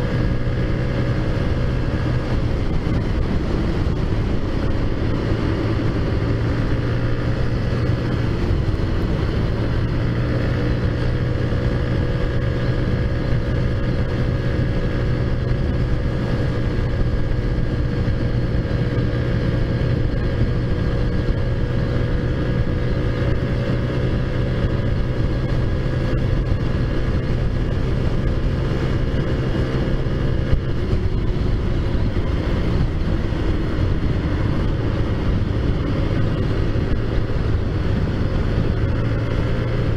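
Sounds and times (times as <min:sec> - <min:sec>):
scooter engine cruising: 0:00.0 - 0:39.9.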